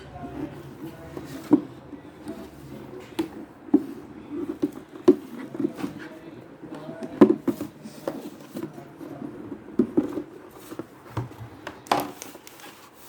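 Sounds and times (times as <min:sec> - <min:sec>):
packaging rustling: 0:00.4 - 0:13.0.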